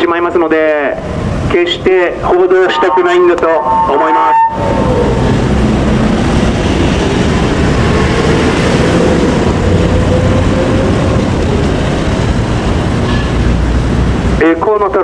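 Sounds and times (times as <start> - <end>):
heavy traffic rumble: 0.0 - 15.0.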